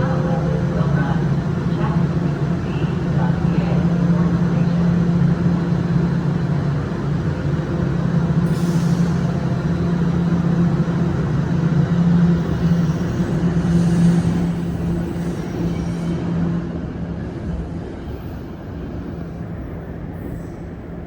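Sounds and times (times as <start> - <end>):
subway train humming: 0.0 - 21.0.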